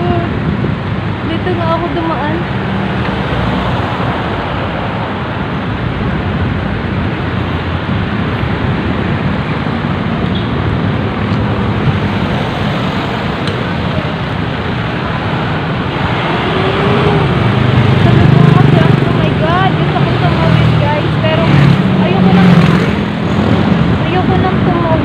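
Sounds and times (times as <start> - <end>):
road traffic noise: 0.0 - 25.0
wind on microphone: 0.0 - 25.0.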